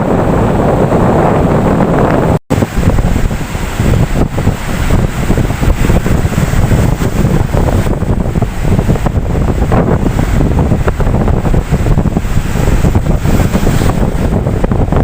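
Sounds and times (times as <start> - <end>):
ocean waves washing in: 0.0 - 15.0
wind rumbling on microphone: 0.0 - 15.0.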